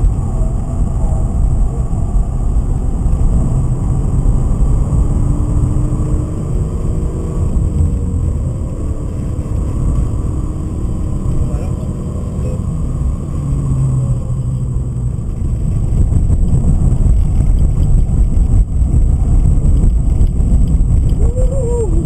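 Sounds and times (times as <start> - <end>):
road noise inside car: 0.0 - 22.0
wind noise: 0.0 - 22.0.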